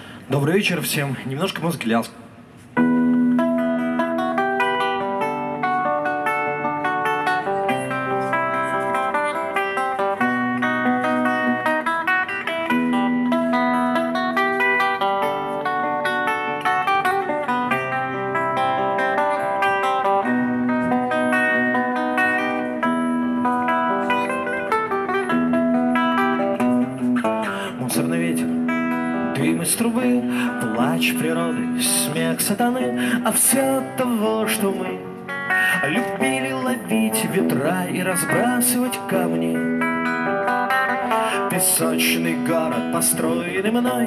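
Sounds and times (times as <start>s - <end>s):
electric guitar playing: 2.2s - 44.0s.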